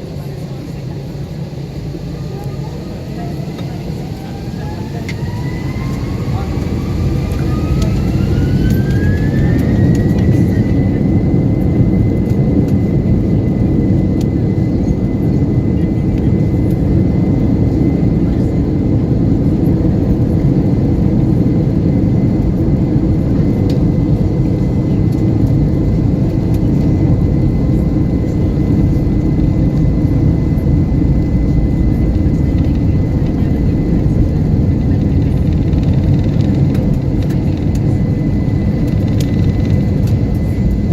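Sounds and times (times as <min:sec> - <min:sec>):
jet engine whine: 0:00.0 - 0:40.9
jet engines roaring: 0:00.0 - 0:40.9.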